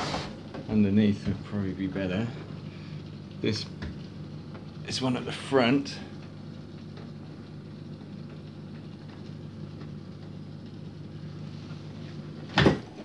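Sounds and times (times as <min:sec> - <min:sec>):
drain pump humming: 0:00.0 - 0:13.0.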